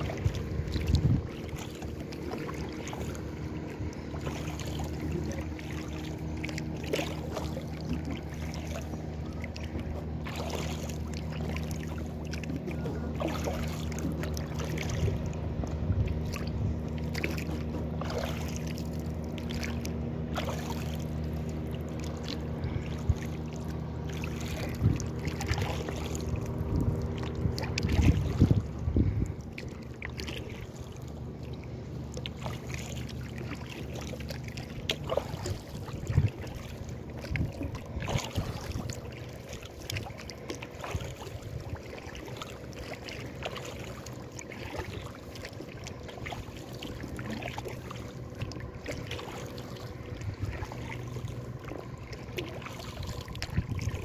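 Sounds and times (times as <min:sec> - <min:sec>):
low hum: 0:00.0 - 0:54.0
water splashing and trickling: 0:00.0 - 0:54.0.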